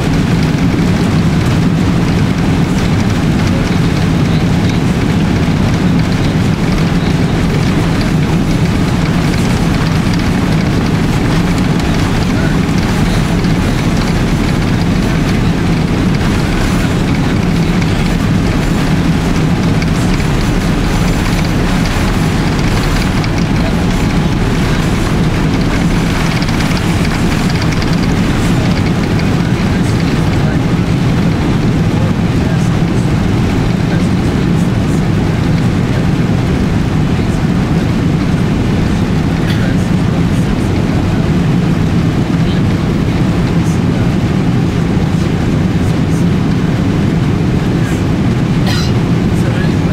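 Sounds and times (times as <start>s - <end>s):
jet engines at takeoff thrust: 0.0s - 49.9s
wheels rumbling on runway: 0.0s - 49.9s.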